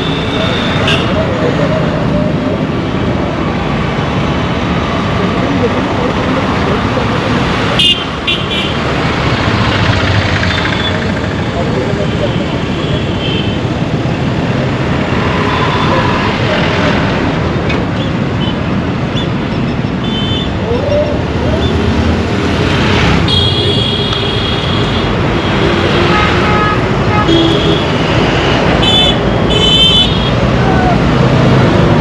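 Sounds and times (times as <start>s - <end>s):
engines and tyres of traffic: 0.0s - 32.0s.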